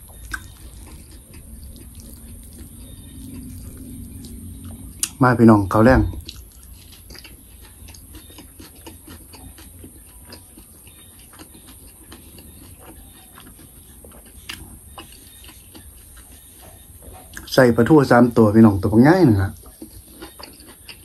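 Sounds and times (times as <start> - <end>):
person chewing food: 0.0 - 17.5, 19.6 - 21.0.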